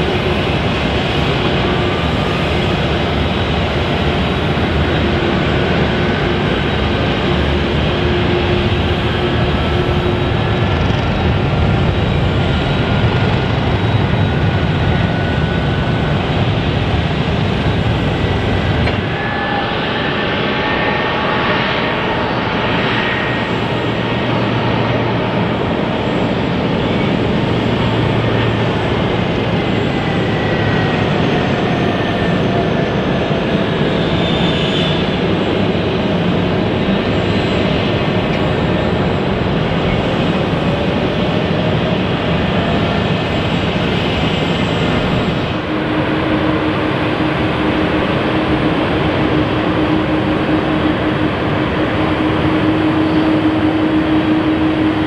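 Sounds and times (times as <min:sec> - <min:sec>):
jet engines rumbling and hissing: 0:00.0 - 0:55.0.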